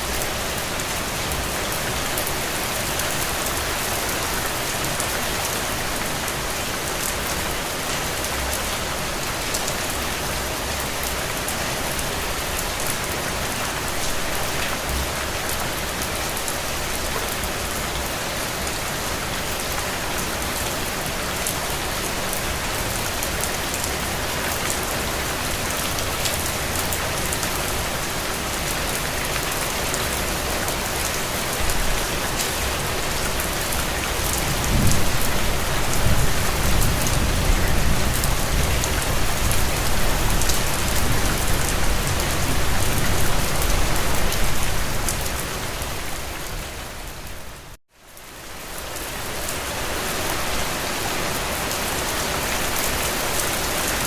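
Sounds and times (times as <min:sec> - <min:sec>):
rain on a window: 0:00.1 - 0:45.4.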